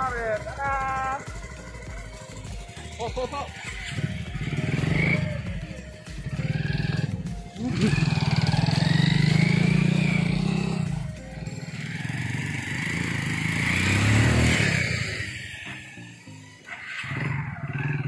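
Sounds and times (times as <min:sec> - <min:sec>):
motorcycle engine revving: 0:00.0 - 0:18.0
small motorcycle engines running: 0:00.0 - 0:18.0.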